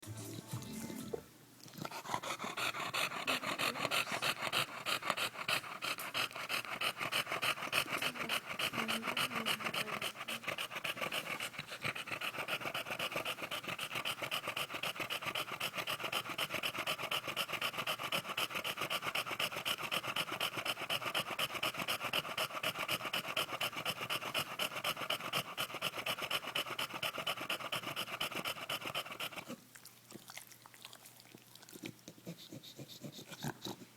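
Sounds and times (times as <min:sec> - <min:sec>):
dog panting heavily: 0:01.8 - 0:29.6, 0:31.8 - 0:33.9.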